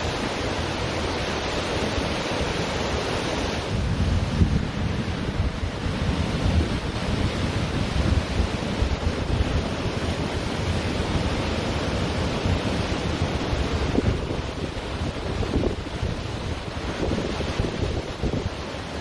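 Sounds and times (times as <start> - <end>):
ocean surf on beach: 0.0 - 19.0
wind buffeting microphone: 0.0 - 19.0.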